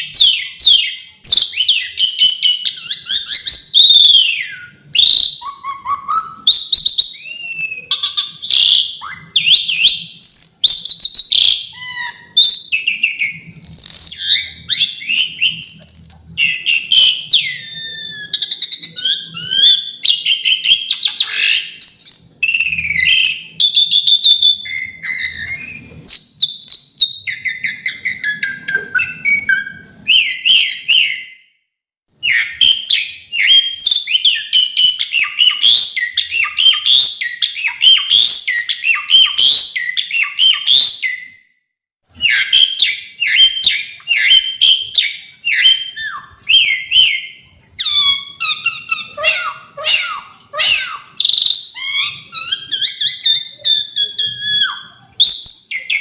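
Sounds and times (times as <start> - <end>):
starling singing: 0.0 - 31.4, 32.2 - 41.3, 42.1 - 56.0.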